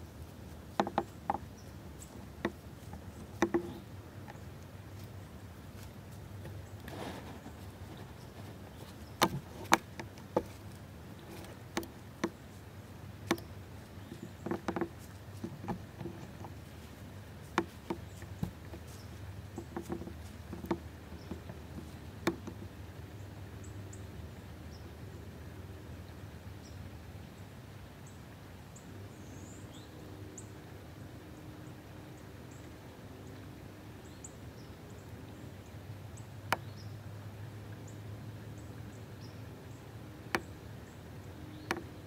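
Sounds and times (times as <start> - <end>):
low outdoor background: 0.0 - 42.0.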